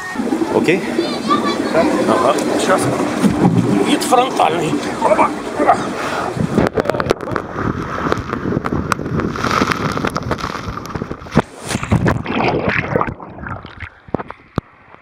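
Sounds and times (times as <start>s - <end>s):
muffled underwater bubbles: 0.0s - 15.0s
water rushing down slide: 0.0s - 15.0s
wind on microphone: 0.0s - 15.0s.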